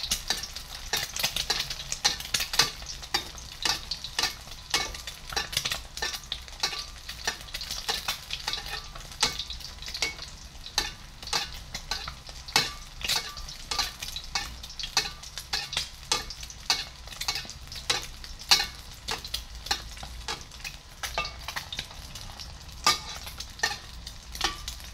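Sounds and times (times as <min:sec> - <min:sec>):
egg frying with oil popping: 0:00.0 - 0:24.9.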